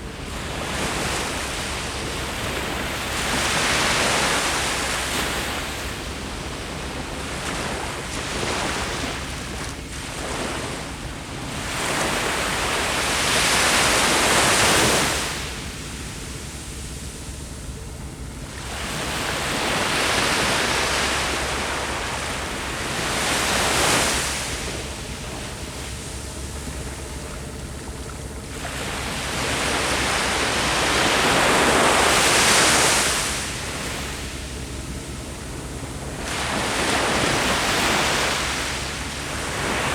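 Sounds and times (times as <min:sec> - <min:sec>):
sea waves surging onto beach: 0:00.0 - 0:39.9.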